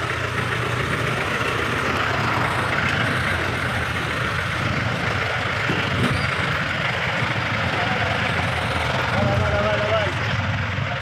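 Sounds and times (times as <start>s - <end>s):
diesel engine running: 0.0s - 11.0s
street traffic hum: 0.0s - 11.0s.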